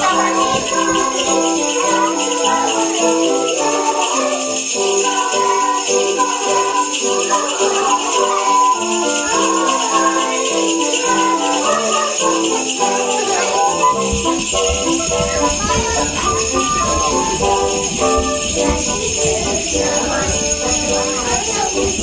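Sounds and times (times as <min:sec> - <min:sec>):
melodic instrumental music: 0:00.0 - 0:22.0
sleigh bells jingling: 0:00.0 - 0:22.0.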